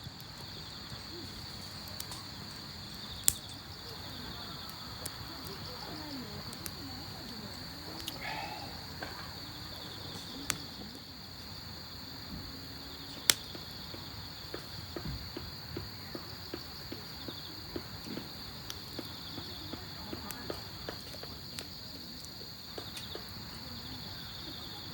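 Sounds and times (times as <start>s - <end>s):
crickets chirring: 0.0s - 24.9s.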